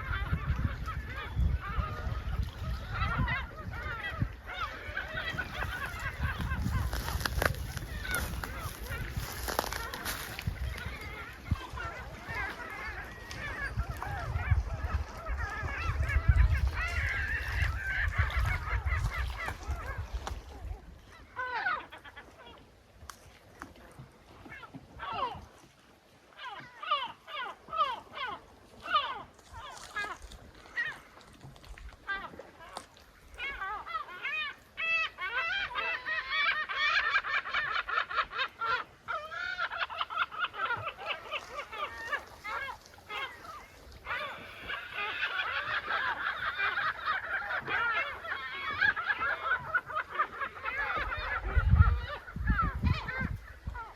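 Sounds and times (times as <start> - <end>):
flock of birds calling: 0.0 - 22.6, 26.3 - 53.9.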